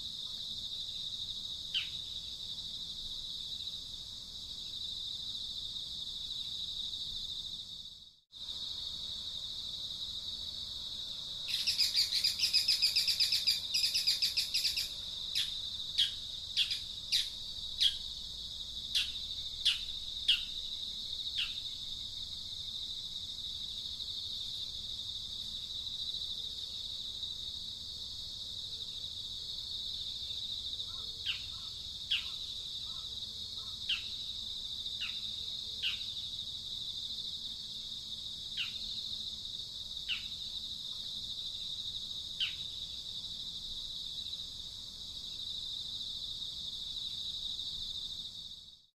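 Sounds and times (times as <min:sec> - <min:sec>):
crickets droning: 0:00.0 - 0:48.9.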